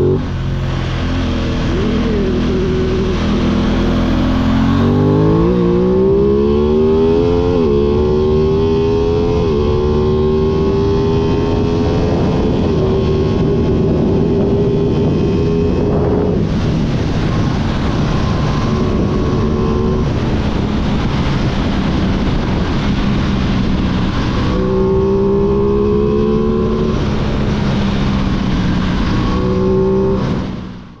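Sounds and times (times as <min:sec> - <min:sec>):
motorcycle engines revving: 0:00.0 - 0:31.0
steady rushing noise: 0:00.0 - 0:31.0.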